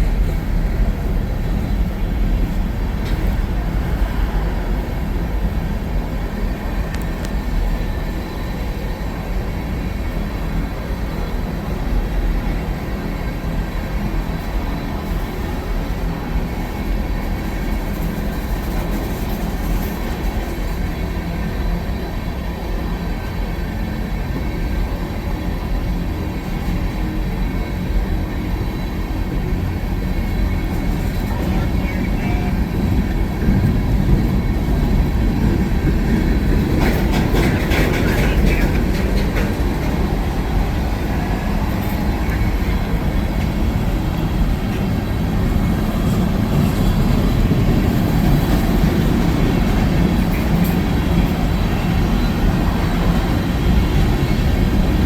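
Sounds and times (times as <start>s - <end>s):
railcars rumbling past: 0.0s - 55.0s.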